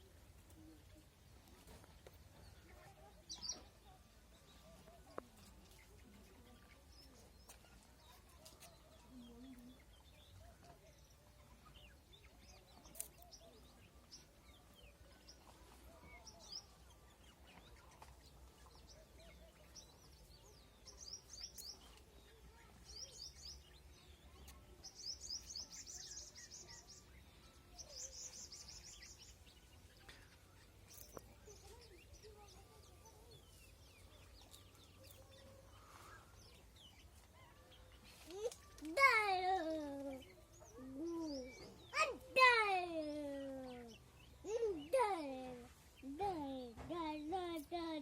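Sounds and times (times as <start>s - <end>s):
faint bird chirping: 0.0s - 48.0s.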